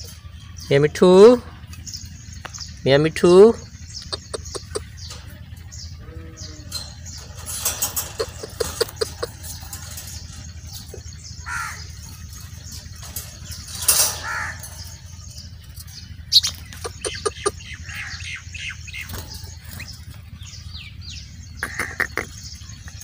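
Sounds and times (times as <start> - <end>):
budgerigars chirping: 0.0 - 23.0
steady low rumble: 0.0 - 23.0.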